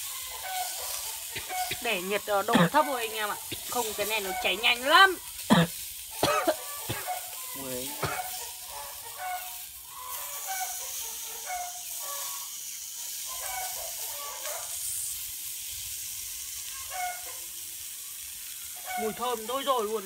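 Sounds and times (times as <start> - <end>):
hot-air gun hissing: 0.0 - 20.0
meat sizzling: 0.0 - 20.0.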